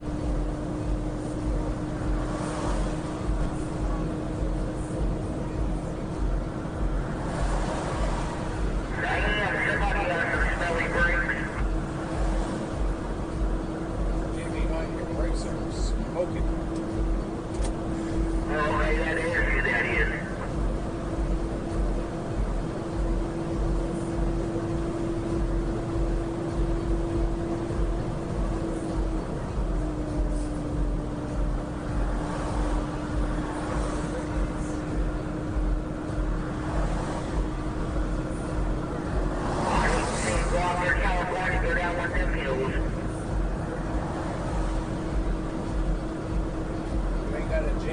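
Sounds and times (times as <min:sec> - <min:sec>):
constant droning tone: 0:00.0 - 0:47.9
truck engine and tyres rumbling: 0:00.0 - 0:47.9.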